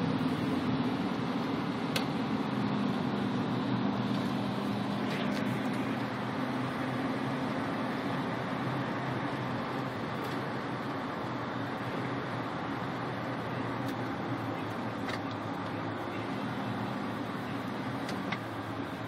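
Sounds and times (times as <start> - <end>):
car engine hum: 0.0 - 19.0
tyre road noise: 0.0 - 19.0.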